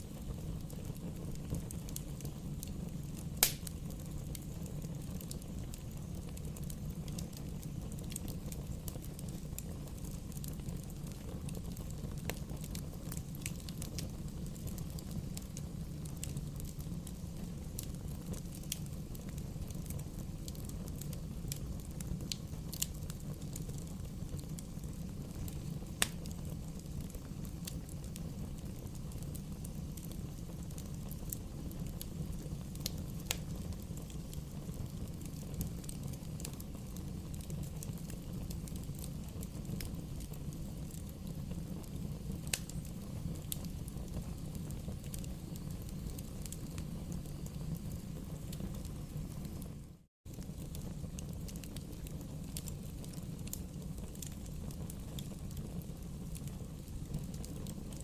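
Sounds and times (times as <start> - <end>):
bonfire rumbling: 0.0 - 58.0
fire crackling and popping: 0.0 - 58.0.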